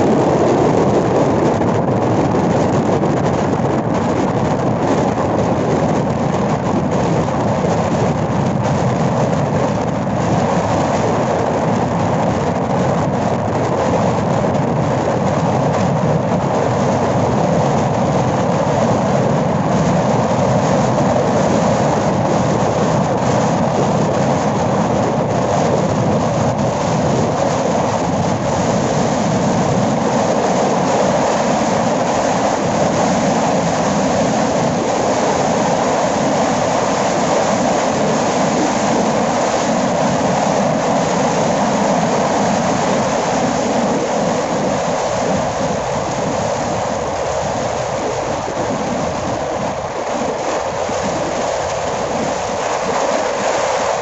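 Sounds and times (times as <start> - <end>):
wind and road noise: 0.0 - 54.0.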